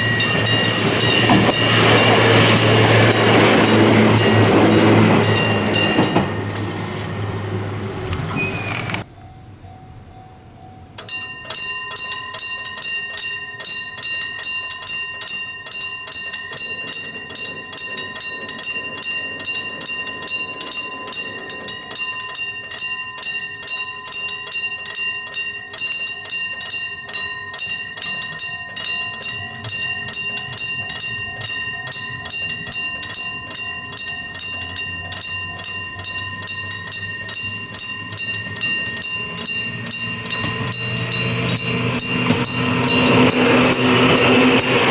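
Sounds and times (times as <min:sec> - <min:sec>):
level crossing bell ringing: 0:00.0 - 0:09.0, 0:10.2 - 0:44.9.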